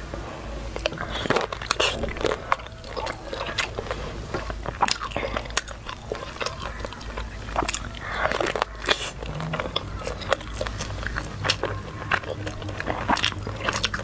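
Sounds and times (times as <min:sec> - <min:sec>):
chewing with wet mouth smacks: 0:00.7 - 0:14.0.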